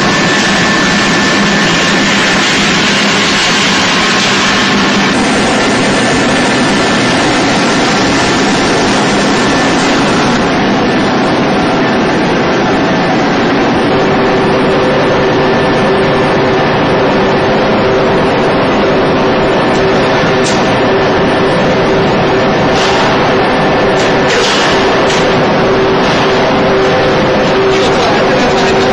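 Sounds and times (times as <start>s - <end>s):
machinery running: 0.0s - 28.9s.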